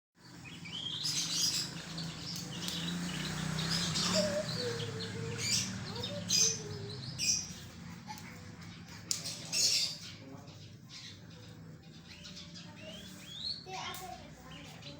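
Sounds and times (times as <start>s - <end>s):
canary chirping and trilling: 0.2s - 14.9s.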